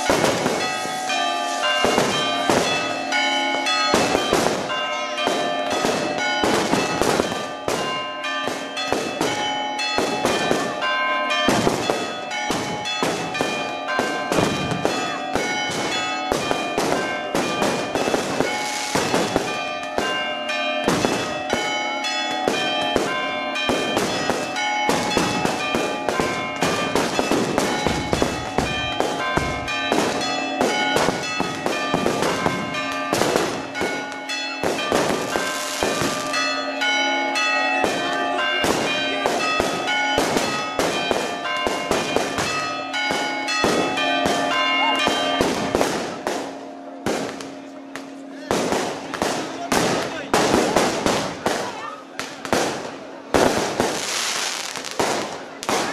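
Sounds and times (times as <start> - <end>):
church bells ringing: 0.0 - 55.9
fireworks banging and crackling: 0.0 - 55.9.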